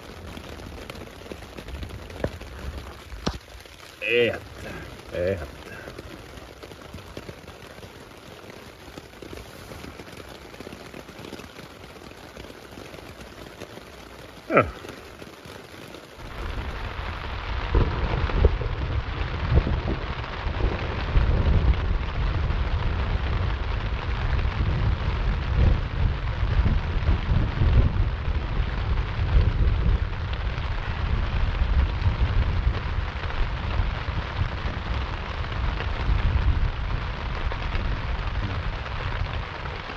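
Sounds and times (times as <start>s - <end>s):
thunder rumbling: 0.0s - 11.2s, 16.2s - 39.9s
rain drumming on tent fabric: 0.0s - 39.9s.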